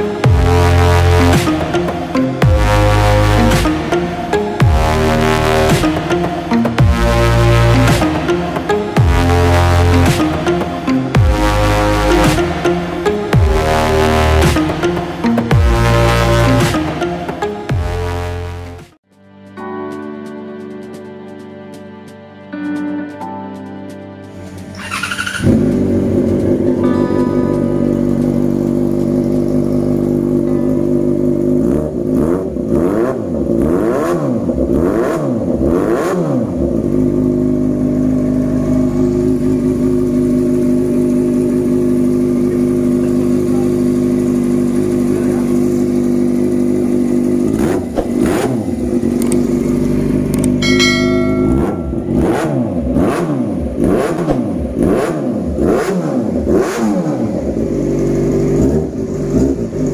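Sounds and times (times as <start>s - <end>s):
motorcycle engine idling and revving: 0.0s - 17.1s, 24.8s - 59.9s.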